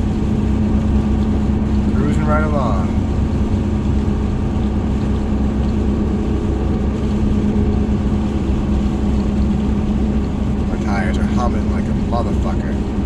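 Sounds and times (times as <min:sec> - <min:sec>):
low engine and road rumble: 0:00.0 - 0:13.0
truck tires humming: 0:00.0 - 0:13.0.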